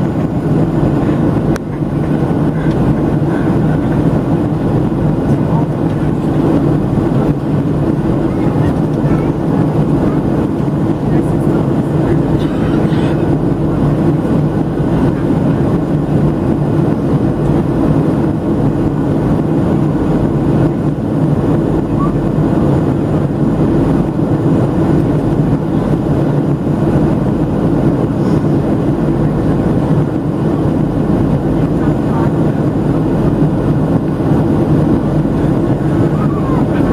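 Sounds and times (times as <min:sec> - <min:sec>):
airflow over fuselage: 0:00.0 - 0:36.9
jet engine drone in cabin: 0:00.0 - 0:36.9.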